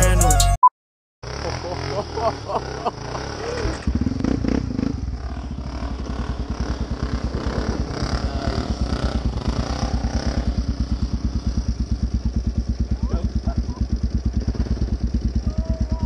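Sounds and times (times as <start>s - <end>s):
quad engine idling: 1.2s - 16.0s.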